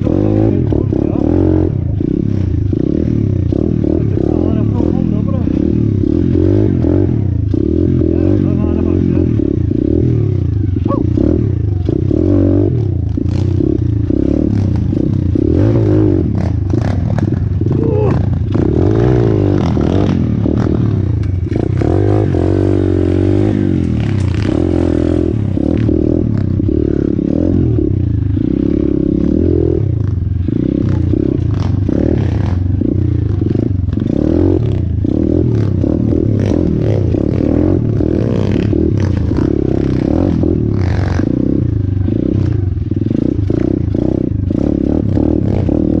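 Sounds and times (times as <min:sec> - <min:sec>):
pit bike engine revving: 0:00.0 - 0:46.0.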